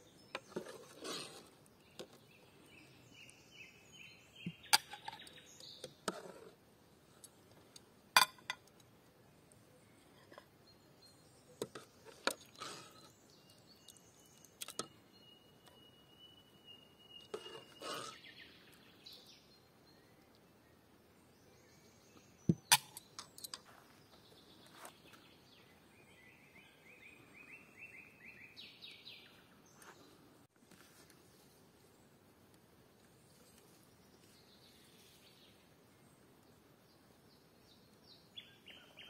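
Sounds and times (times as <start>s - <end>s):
birds singing: 0.0s - 6.5s, 7.1s - 30.3s, 33.2s - 39.0s.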